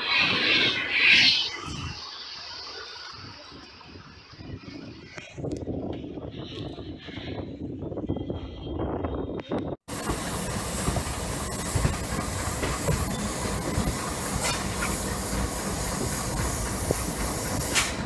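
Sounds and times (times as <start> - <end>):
train wheel and air rush: 0.0 - 8.6, 9.8 - 18.0.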